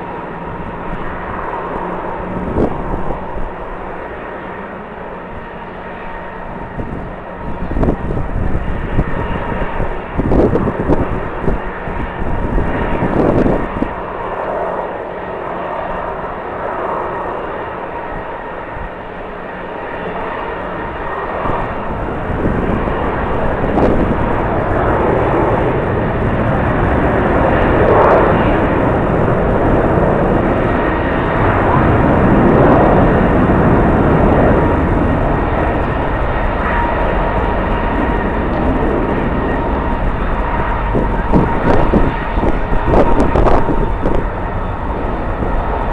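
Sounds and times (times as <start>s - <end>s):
jet engines roaring: 0.0s - 45.9s
wind buffeting microphone: 0.0s - 45.9s.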